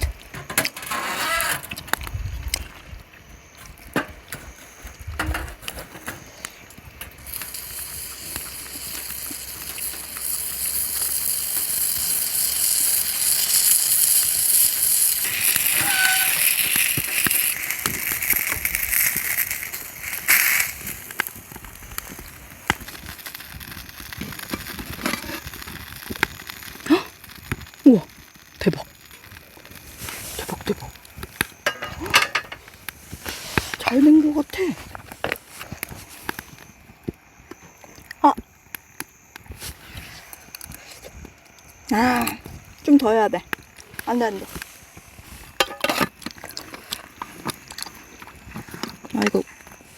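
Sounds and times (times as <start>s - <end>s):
beef sizzling on grill: 0.0s - 49.9s
fire clicks and pops: 0.0s - 49.9s.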